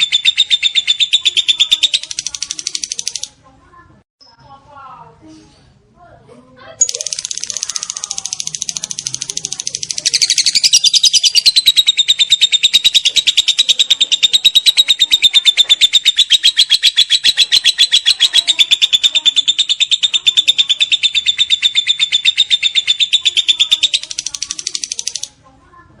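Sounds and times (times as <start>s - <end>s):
lovebird trilling chatter: 0.0s - 3.3s, 6.8s - 25.3s.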